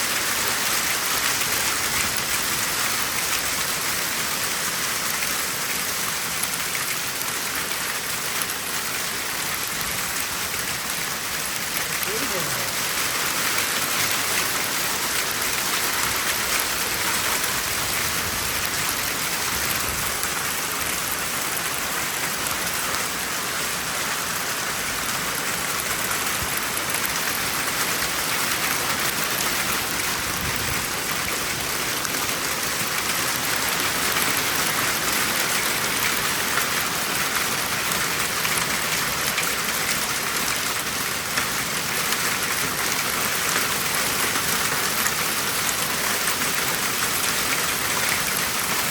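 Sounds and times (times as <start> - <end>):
hail and heavy rain pelting: 0.0 - 48.9.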